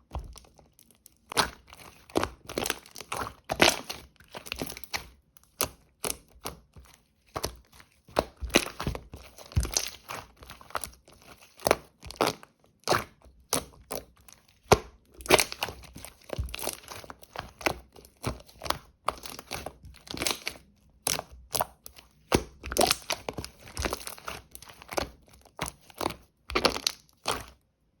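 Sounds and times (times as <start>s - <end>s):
slime squished by hand: 0.0s - 27.6s.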